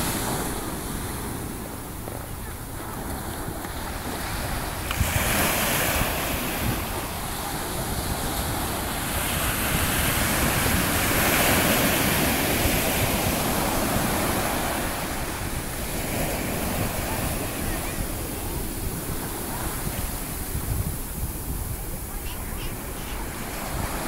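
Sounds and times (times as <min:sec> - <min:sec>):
ocean surf washing up beach: 0:00.0 - 0:24.0
wave crashing: 0:00.0 - 0:24.0.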